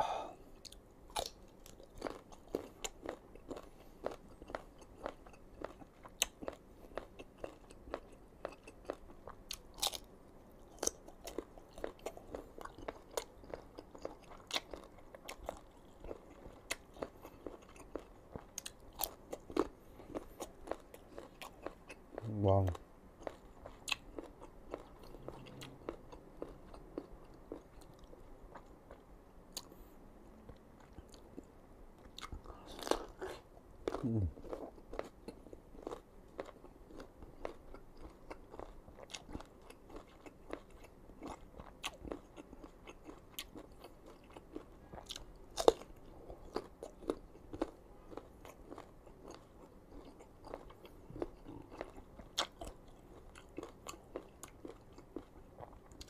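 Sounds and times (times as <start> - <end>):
crunching and wet chewing: 0.4 - 29.9, 30.5 - 56.0.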